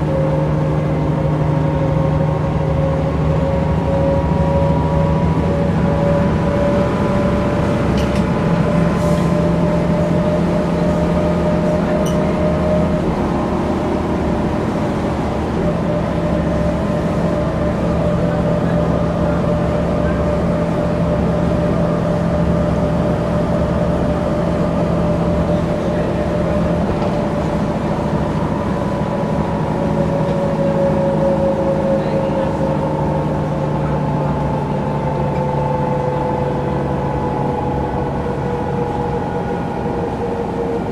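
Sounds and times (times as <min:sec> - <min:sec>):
bus diesel drone: 0:00.0 - 0:40.9
drivetrain whine: 0:00.0 - 0:40.9.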